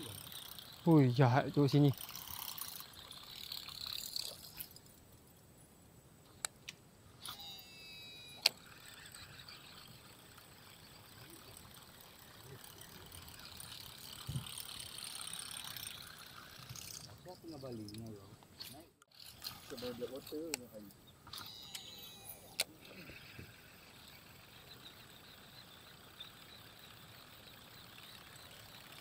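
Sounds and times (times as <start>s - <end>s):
fishing line paying out whine: 0.0s - 5.0s, 7.2s - 17.9s, 19.3s - 29.0s
reel clicks: 0.0s - 5.0s, 6.4s - 17.2s, 17.8s - 29.0s.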